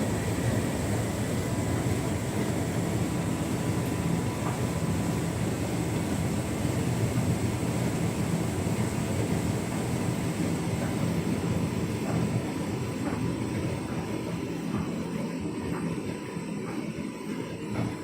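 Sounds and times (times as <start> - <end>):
tumble dryer rumble: 0.0 - 18.0.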